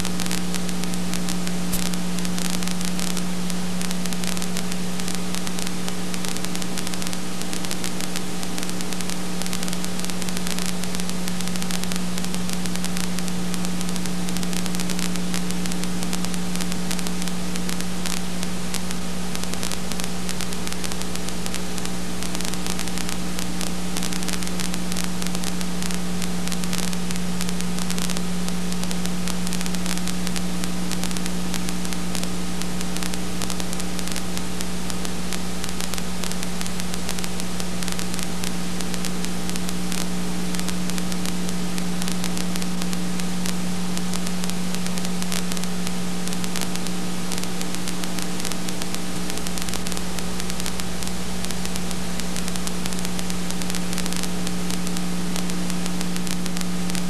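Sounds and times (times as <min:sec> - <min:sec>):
electrical hum with hiss: 0:00.0 - 0:57.0
fine crackle: 0:00.0 - 0:57.0.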